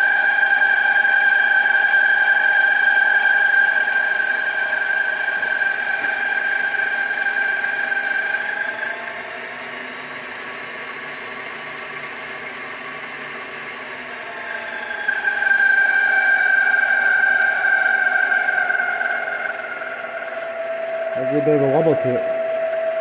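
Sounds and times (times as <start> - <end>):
lathe motor whining: 0.0 - 23.0.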